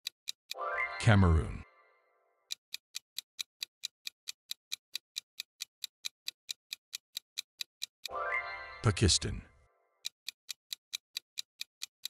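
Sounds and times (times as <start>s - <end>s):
clock ticking: 0.0s - 1.7s, 2.4s - 12.0s.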